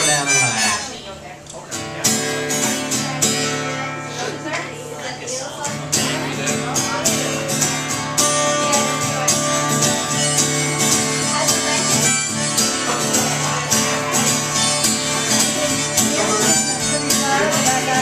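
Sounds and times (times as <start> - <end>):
guitars: 0.0 - 18.0.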